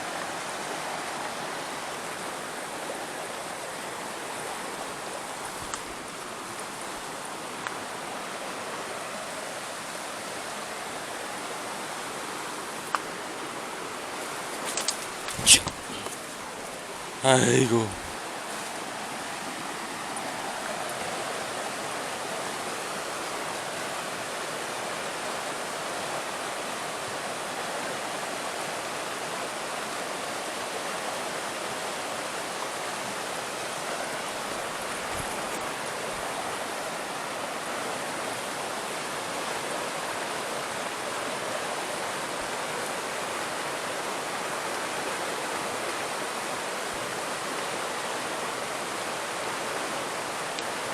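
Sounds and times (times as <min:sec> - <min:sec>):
water flowing in a canal: 0:00.0 - 0:50.9.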